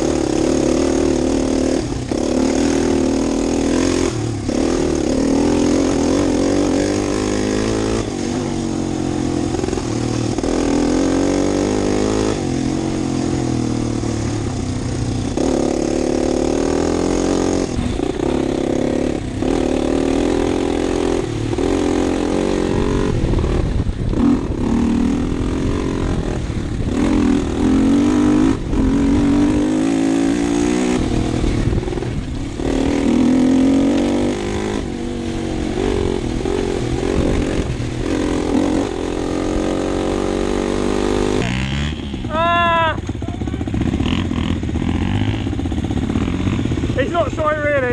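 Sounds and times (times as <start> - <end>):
enduro bike engine revving: 0.0 - 47.9.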